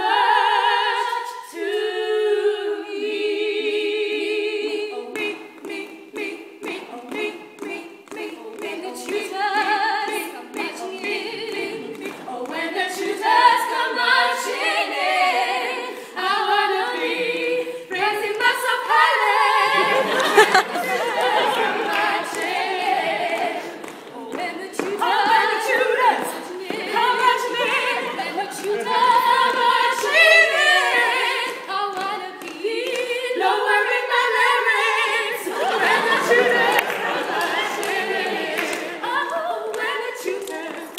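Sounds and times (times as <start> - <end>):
women singing in harmony: 0.0 - 40.9.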